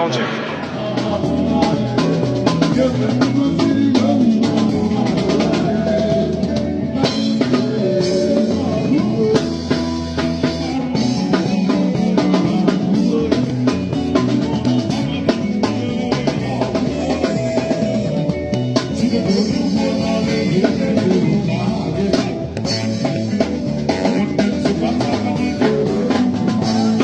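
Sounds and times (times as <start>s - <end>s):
bass and held instrument notes: 0.0s - 27.0s
drum kit steady beat: 0.0s - 27.0s.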